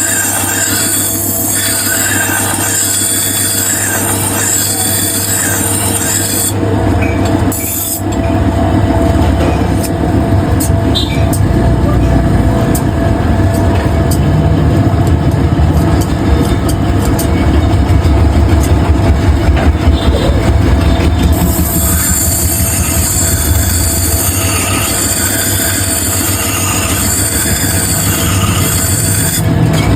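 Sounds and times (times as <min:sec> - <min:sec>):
blade grinding on sharpening wheel: 0:00.0 - 0:08.4, 0:09.7 - 0:29.9.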